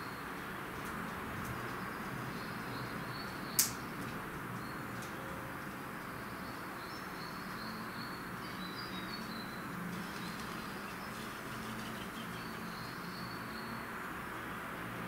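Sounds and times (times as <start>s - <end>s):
small birds chirping: 1.5s - 14.0s.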